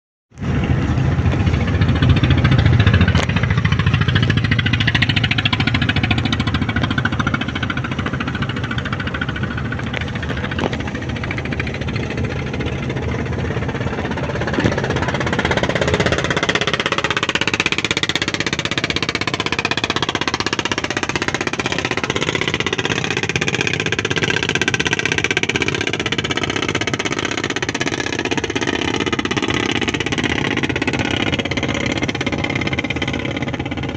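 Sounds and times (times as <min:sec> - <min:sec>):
boat engine knocking: 0:00.3 - 0:33.9.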